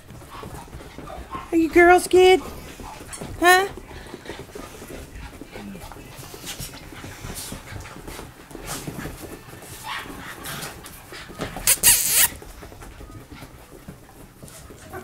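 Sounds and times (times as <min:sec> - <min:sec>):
dogs scuffling and playing: 0:00.0 - 0:15.0.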